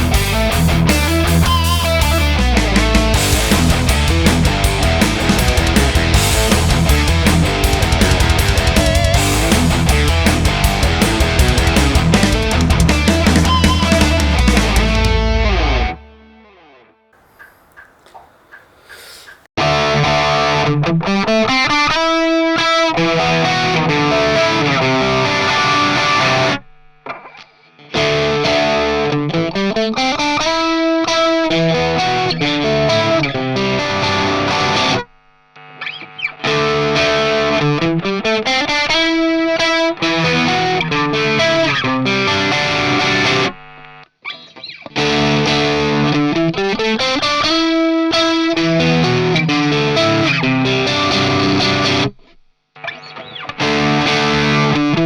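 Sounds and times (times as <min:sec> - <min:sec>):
distorted electric guitar: 0:00.0 - 0:16.8, 0:19.6 - 0:55.0.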